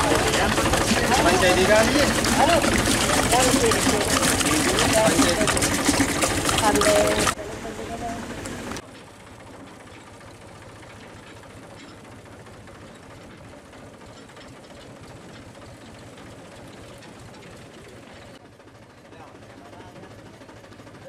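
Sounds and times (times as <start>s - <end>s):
engine rattling: 0.0s - 21.0s.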